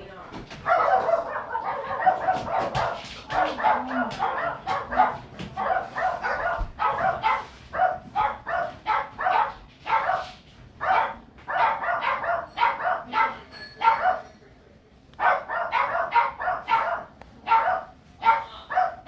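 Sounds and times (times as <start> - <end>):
dog barking: 0.6 - 14.3, 15.2 - 19.0.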